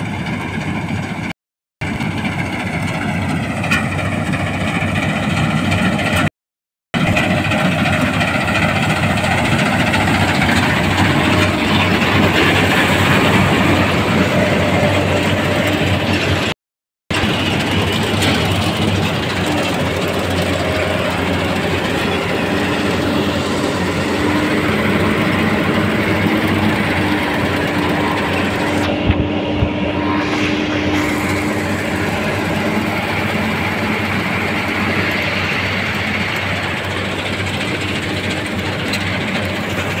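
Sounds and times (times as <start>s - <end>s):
combine harvester droning: 0.0s - 6.3s, 7.0s - 40.0s.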